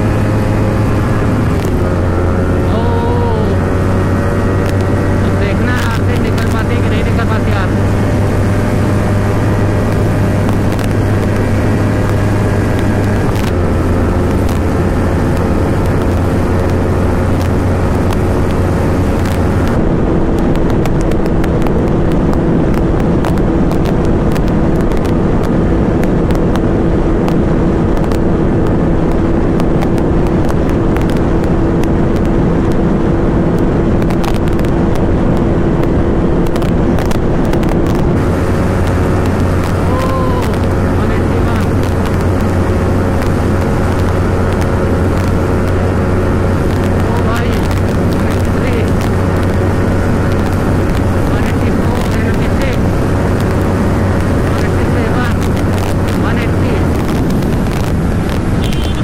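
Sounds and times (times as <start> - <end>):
motorcycle engine at high revs: 0.0 - 59.0
wind rush: 0.0 - 59.0.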